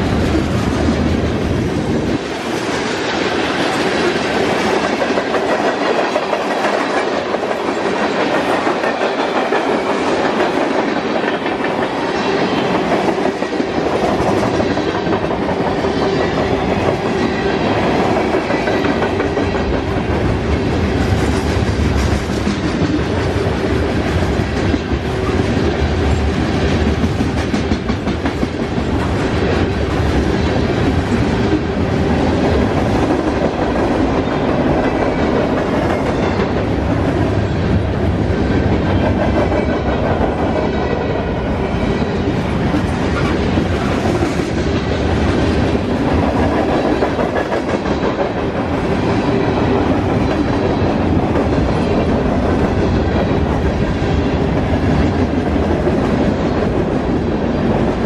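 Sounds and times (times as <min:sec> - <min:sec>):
train wheels clacking over rail joints: 0:00.0 - 0:41.0, 0:41.7 - 0:57.2
low train rumble: 0:00.0 - 0:58.0.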